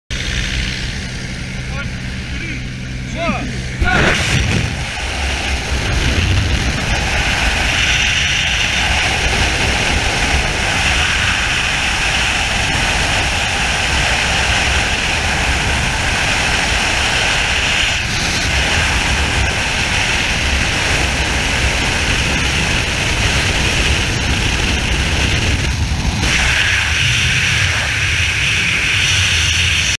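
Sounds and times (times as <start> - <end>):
freefall wind rush: 0.1 - 30.0.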